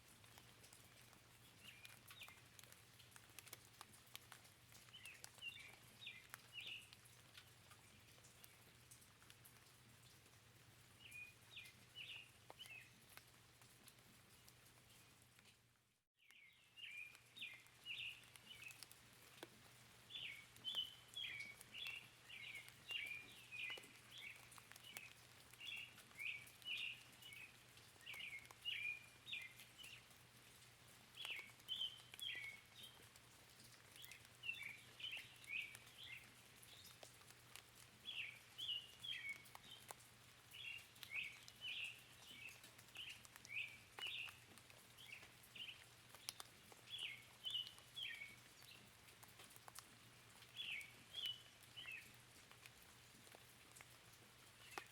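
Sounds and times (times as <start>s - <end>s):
songbirds chirping: 0.1s - 15.6s, 16.2s - 54.9s.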